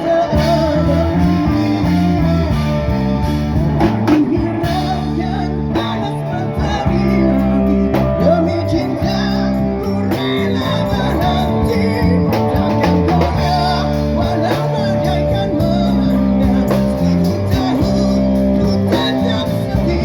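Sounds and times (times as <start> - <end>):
bass guitar: 0.0 - 20.0
guitar: 0.0 - 20.0
man singing: 0.0 - 20.0.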